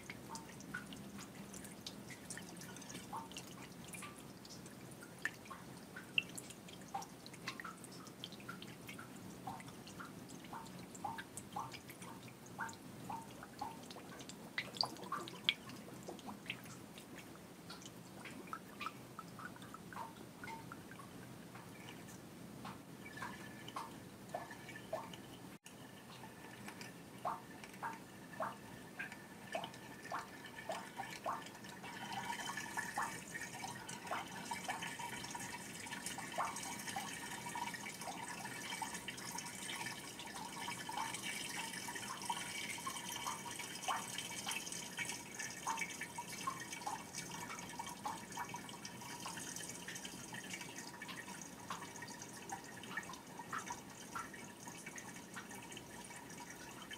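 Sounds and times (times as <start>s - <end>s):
plinking water drops: 0.0s - 56.9s
water trickling and splashing: 0.0s - 56.9s.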